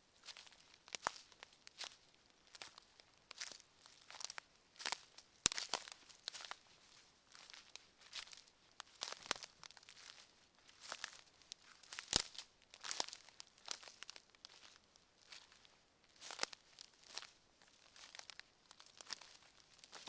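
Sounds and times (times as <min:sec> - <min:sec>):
footsteps on forest path: 0:00.2 - 0:17.3.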